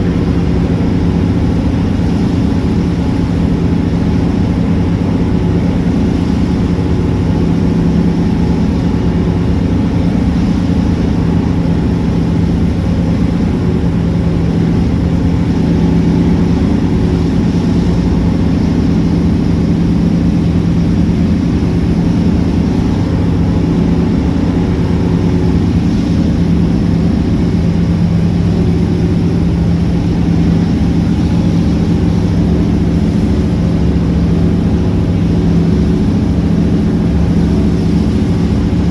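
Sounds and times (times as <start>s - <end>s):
steady engine drone: 0.0s - 38.9s.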